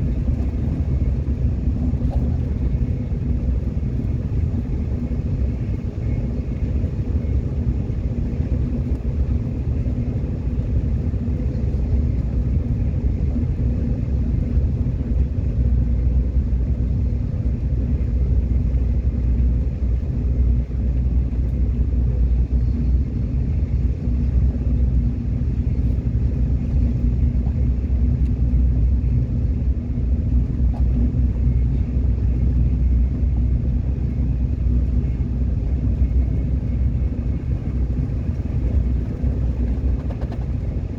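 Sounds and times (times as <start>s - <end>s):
subway train rumbling: 0.0s - 40.9s.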